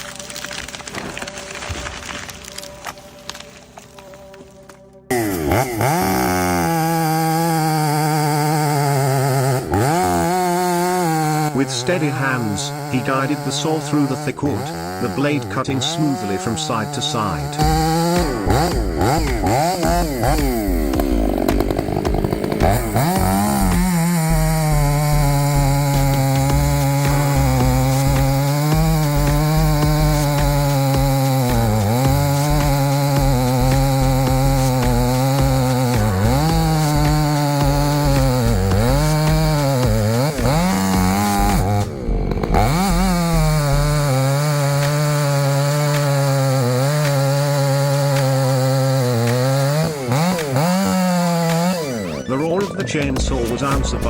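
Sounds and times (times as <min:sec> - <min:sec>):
chainsaw engine revving: 0:05.1 - 0:54.0.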